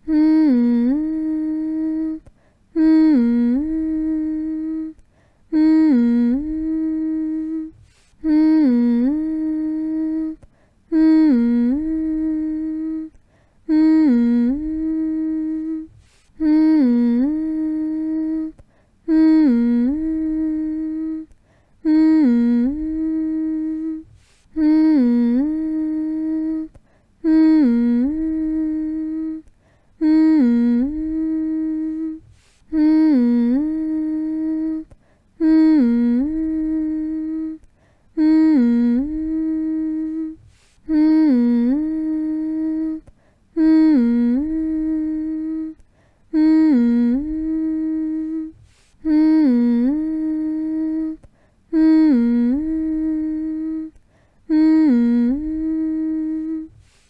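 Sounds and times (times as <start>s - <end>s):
person humming a lullaby: 0.0s - 57.0s.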